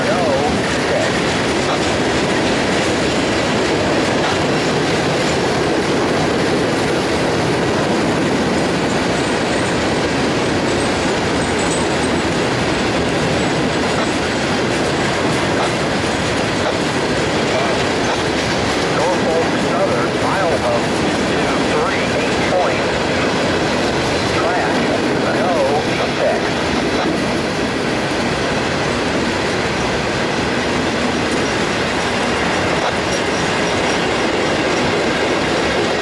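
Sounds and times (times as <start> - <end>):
train wheels on rails: 0.0 - 36.0.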